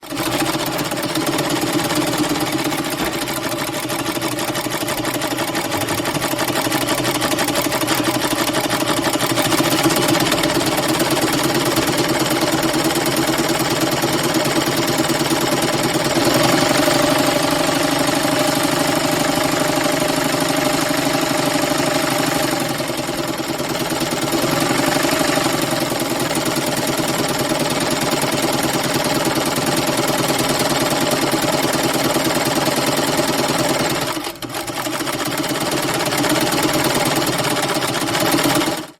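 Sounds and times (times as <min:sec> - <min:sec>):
sewing machine stitching: 0:00.0 - 0:38.9.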